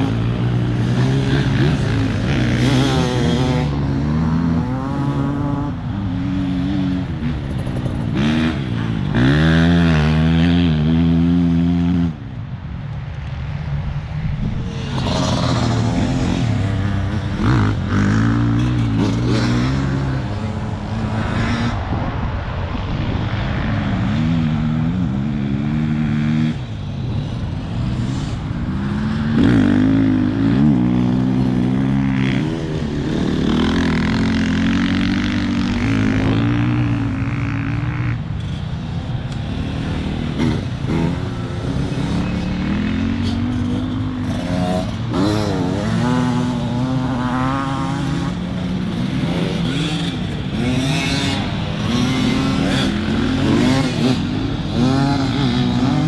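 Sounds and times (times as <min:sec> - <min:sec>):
motorcycle engine revving: 0:00.0 - 0:12.3, 0:14.4 - 0:22.3, 0:23.1 - 0:56.0
steady rushing noise: 0:00.0 - 0:56.0.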